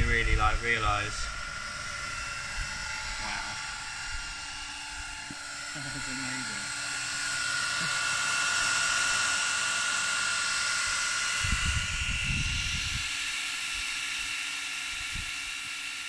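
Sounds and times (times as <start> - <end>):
cooling fans hissing and whining: 0.0 - 16.0.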